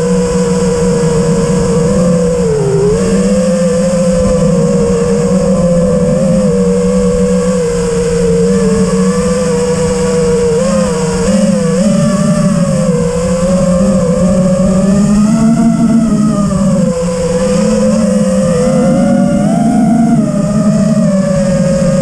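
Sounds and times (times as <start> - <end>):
drone motors whining: 0.0 - 22.0
low rushing noise: 0.0 - 22.0.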